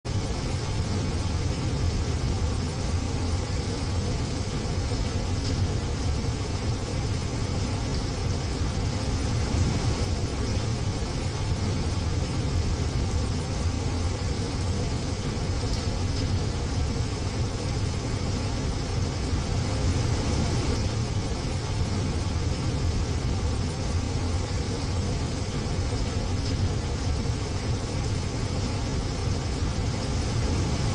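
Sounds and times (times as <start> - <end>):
heavy rain on a window: 0.0 - 30.9.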